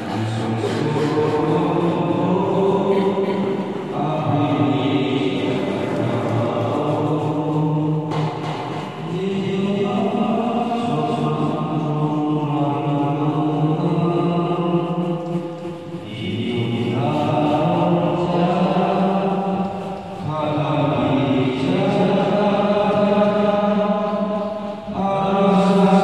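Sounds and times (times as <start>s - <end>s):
group singing an anthem: 0.0s - 26.0s.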